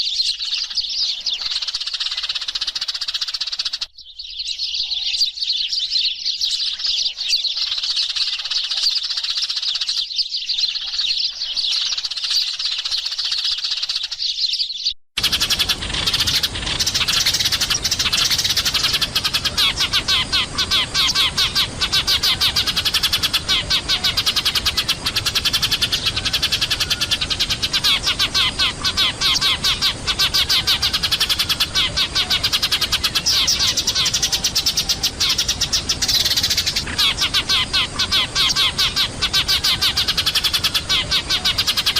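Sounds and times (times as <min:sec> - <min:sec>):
sparrows chirping: 0:00.0 - 0:41.9.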